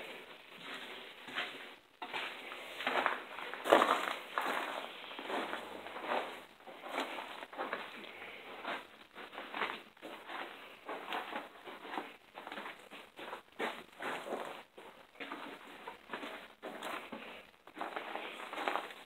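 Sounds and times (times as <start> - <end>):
footsteps crunching on debris: 0.0 - 19.0.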